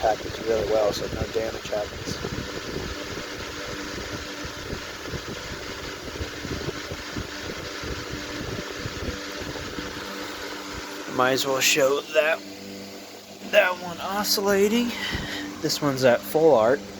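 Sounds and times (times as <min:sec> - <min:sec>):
electric fan running: 0:00.0 - 0:16.9.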